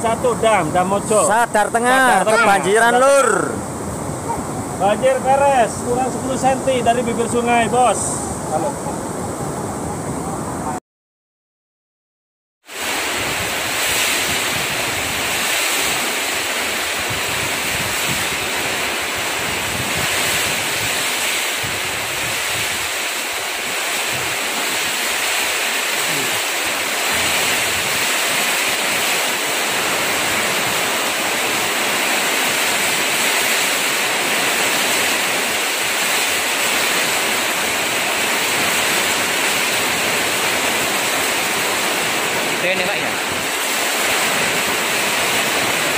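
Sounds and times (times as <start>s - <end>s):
heavy rain pouring: 0.0s - 8.8s, 12.7s - 45.9s.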